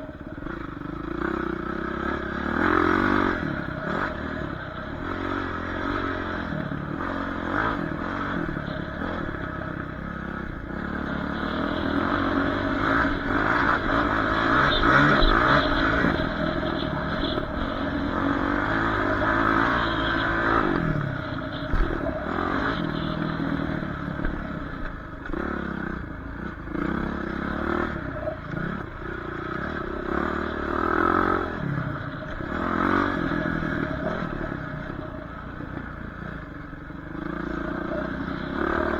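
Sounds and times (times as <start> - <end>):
dirt bike engine revving: 0.2 - 38.9.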